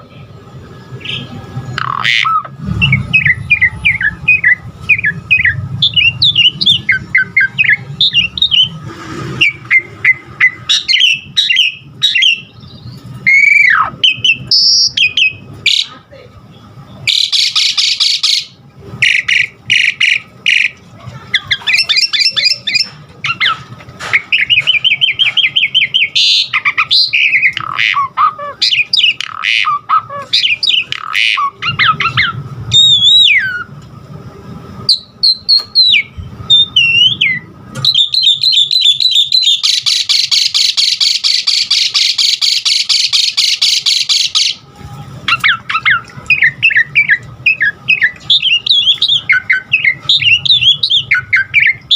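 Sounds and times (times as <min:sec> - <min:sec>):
starling singing: 0:00.9 - 0:33.8, 0:34.8 - 0:51.9.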